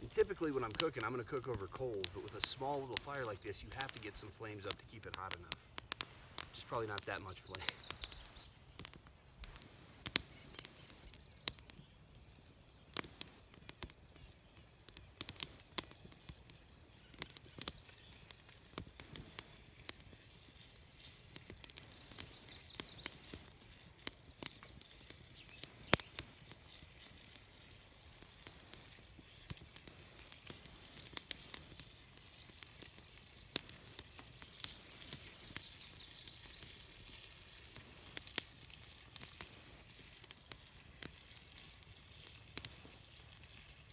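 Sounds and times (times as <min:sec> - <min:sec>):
bacon sizzling: 0:00.0 - 0:43.9
campfire crackling and popping: 0:00.0 - 0:43.9.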